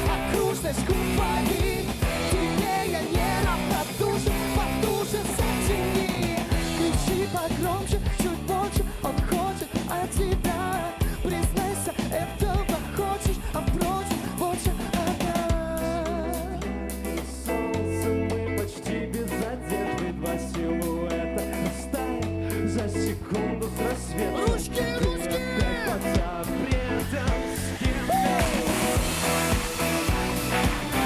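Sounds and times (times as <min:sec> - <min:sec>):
bass guitar: 0:00.0 - 0:31.0
drum kit: 0:00.0 - 0:31.0
electric guitar: 0:00.0 - 0:31.0
keyboards: 0:00.0 - 0:31.0
person singing: 0:00.0 - 0:31.0.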